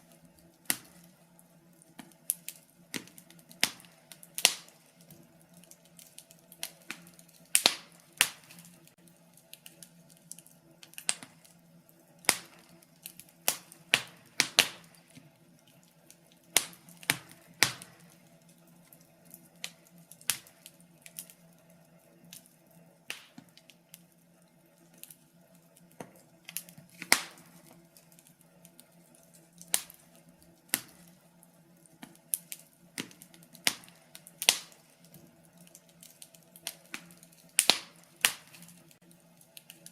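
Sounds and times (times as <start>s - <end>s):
faint steady hum: 0.0s - 39.9s
firewood crackling and popping: 0.0s - 39.9s.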